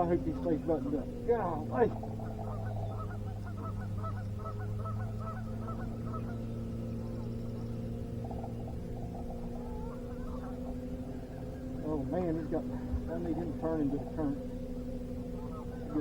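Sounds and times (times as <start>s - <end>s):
geese honking: 0.0s - 16.0s
low motor hum: 0.0s - 16.0s.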